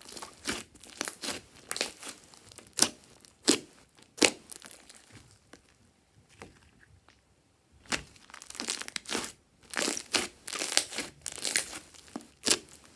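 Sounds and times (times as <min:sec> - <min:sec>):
slime squishing with sticky pops: 0:00.0 - 0:07.2, 0:07.8 - 0:12.9.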